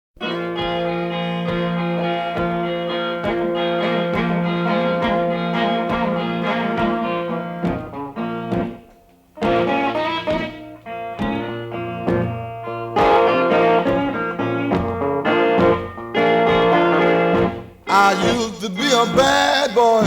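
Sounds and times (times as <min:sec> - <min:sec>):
blues guitar music: 0:00.2 - 0:20.0.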